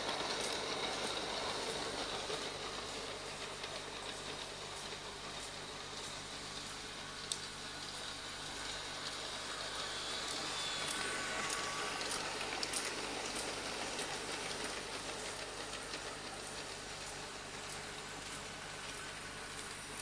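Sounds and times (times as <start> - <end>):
light clicks of train wheels: 0.0 - 20.0
model train wheels rolling: 0.0 - 20.0.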